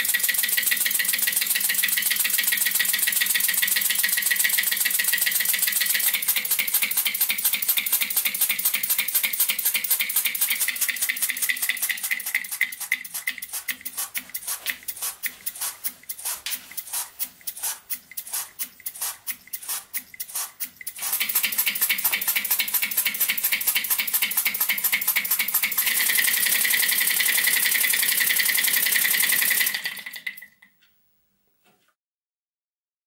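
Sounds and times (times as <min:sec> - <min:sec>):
model steam engine clicking: 0:00.0 - 0:30.7.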